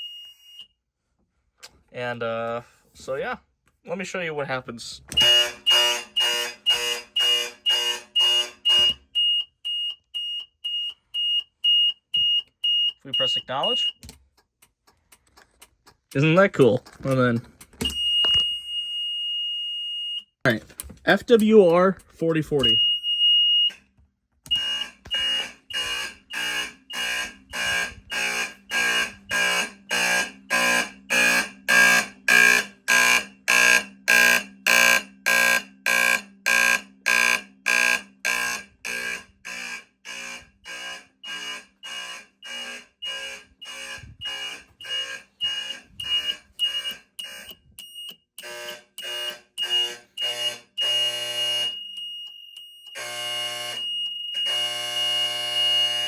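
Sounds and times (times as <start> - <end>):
fire alarm horns pulsing: 0.0 - 0.7, 5.1 - 14.0, 17.8 - 20.3, 22.2 - 23.8, 24.5 - 56.0.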